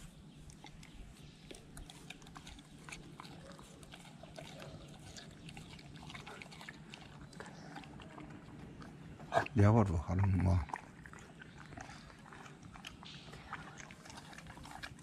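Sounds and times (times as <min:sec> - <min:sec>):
dog chewing wet smacks: 0:00.0 - 0:15.0.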